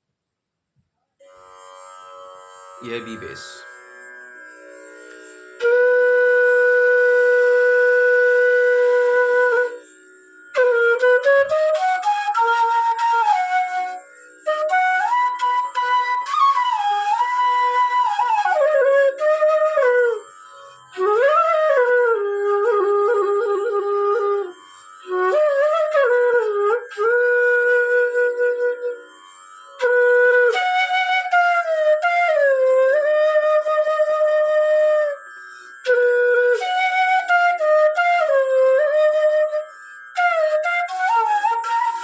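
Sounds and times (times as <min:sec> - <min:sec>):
bamboo flute playing: 0:05.6 - 0:42.0.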